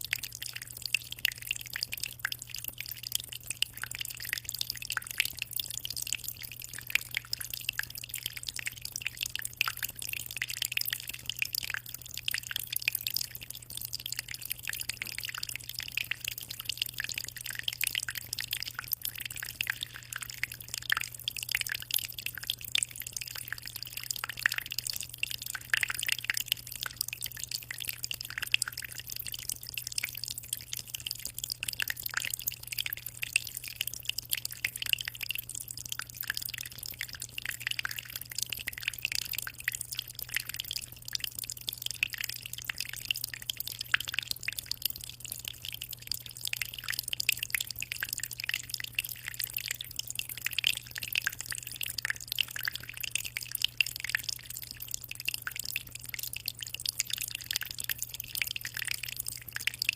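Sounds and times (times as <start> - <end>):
aquarium water trickling and splashing: 0.0 - 59.9.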